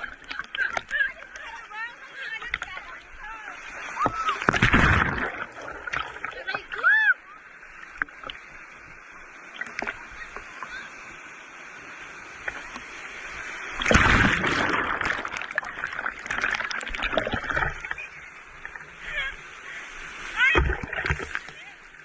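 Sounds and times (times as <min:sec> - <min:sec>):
wave breaking: 0:00.0 - 0:08.9, 0:11.9 - 0:22.0.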